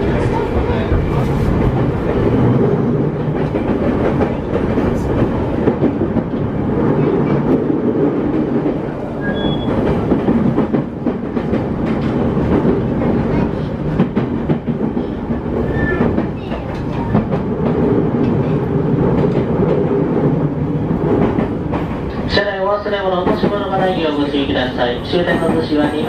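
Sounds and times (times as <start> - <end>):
wheels rumbling on rails: 0.0 - 26.0.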